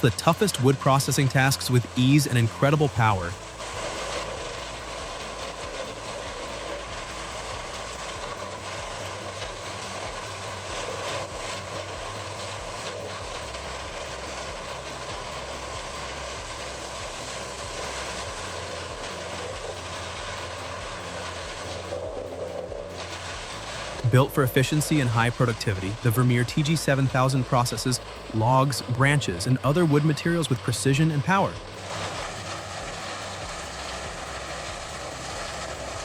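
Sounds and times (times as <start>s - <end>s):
grinder machine drone: 0.0s - 36.0s.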